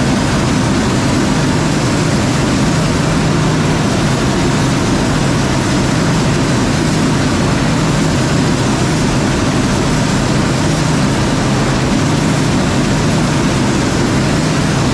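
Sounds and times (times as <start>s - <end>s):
heavy machinery running: 0.0s - 14.9s.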